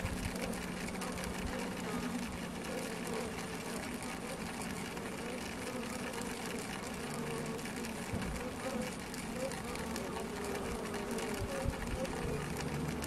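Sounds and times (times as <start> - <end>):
bees buzzing hum: 0.0 - 13.0
bees tapping: 0.0 - 13.0.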